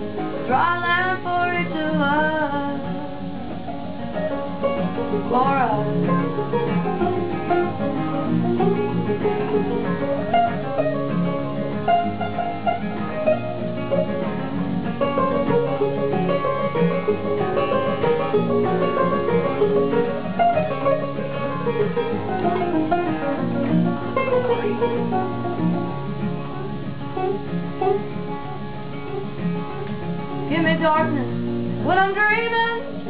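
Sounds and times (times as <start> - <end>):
acoustic guitar: 0.0 - 33.0
banjo: 0.0 - 33.0.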